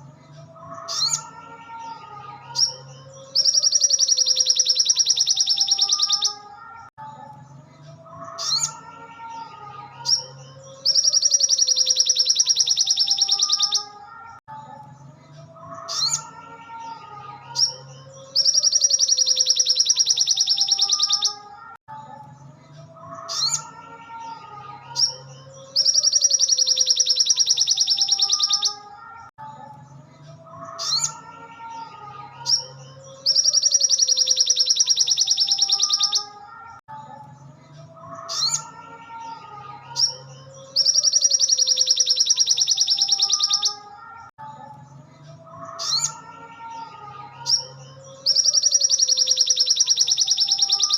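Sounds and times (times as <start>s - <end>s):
bird chirps and warbling: 0.0s - 50.9s.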